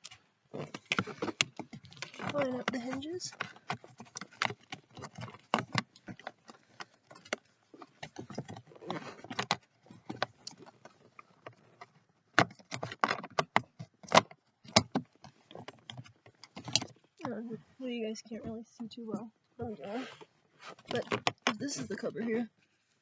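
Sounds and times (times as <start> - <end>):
plastic cover clicking and rattling: 0.0 - 17.4, 20.6 - 22.4.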